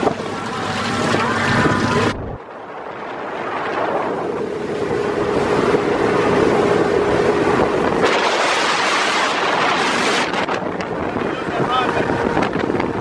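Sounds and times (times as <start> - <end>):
boat engine hum: 0.0 - 13.0
water rushing off hull: 0.0 - 13.0
wind on microphone: 0.0 - 13.0.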